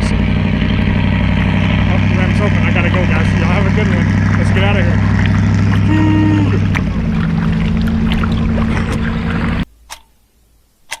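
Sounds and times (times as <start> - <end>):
boat engine humming: 0.0 - 9.8.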